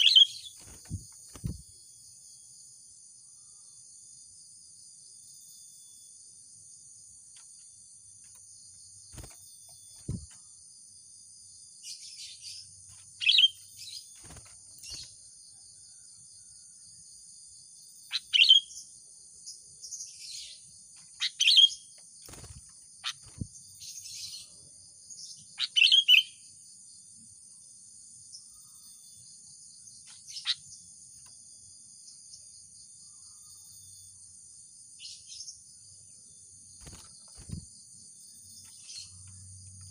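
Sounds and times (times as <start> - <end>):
high insect drone: 0.0 - 25.3, 26.4 - 39.9.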